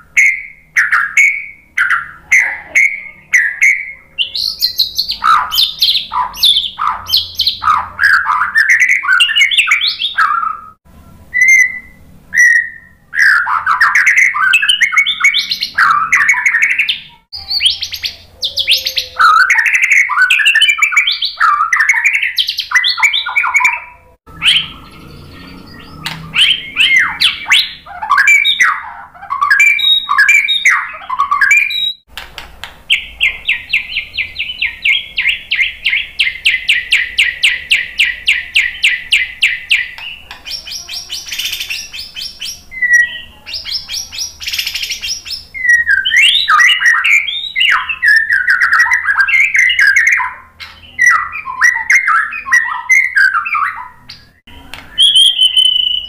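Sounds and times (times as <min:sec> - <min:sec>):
bird singing whistled notes: 0:00.0 - 0:32.1, 0:32.9 - 0:56.0.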